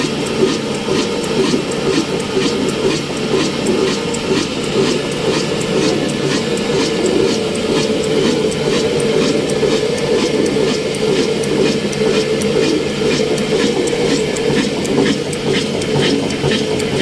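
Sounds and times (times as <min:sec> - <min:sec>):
diesel engine running: 0:00.0 - 0:17.0
repeating mechanical clacking: 0:00.0 - 0:17.0.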